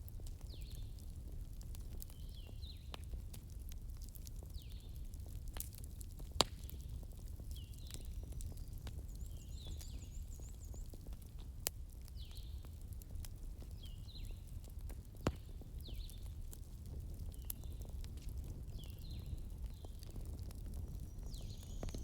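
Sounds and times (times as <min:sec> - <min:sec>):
crackling fire: 0:00.0 - 0:22.0.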